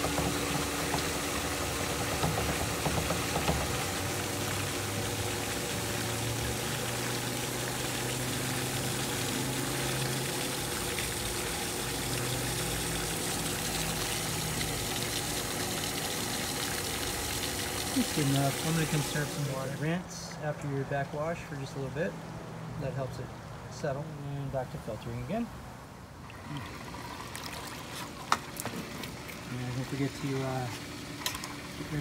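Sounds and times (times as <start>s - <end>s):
water rushing through pipes: 0.0s - 20.1s, 26.2s - 32.0s
pool pump running: 0.0s - 32.0s.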